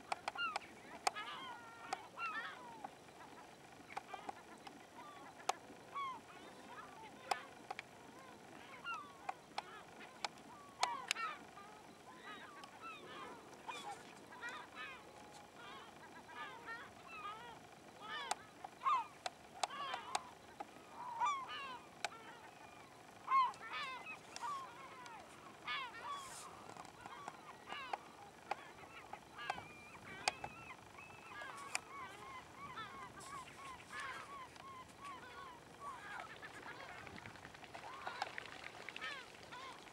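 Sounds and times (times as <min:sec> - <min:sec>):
waterfowl honking: 0:00.0 - 0:03.5, 0:08.2 - 0:39.9.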